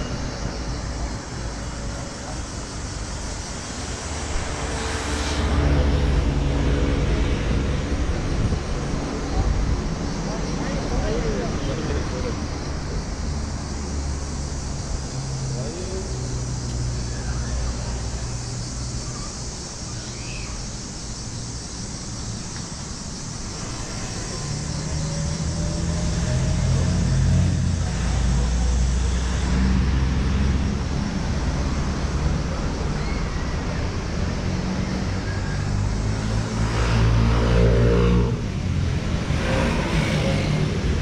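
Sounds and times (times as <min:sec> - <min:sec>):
city street noise: 0:00.0 - 0:41.0
vehicle engine hum: 0:00.0 - 0:41.0.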